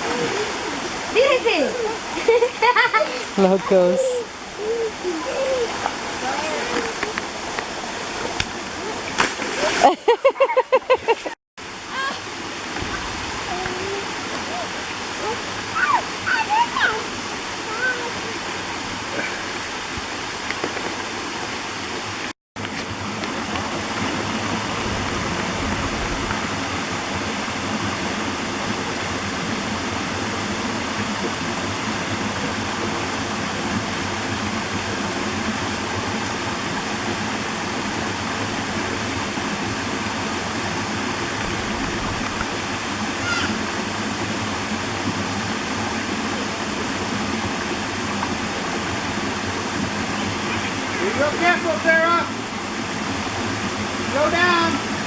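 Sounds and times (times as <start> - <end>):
waterfall rushing: 0.0 - 10.2, 11.6 - 22.3, 22.9 - 55.0.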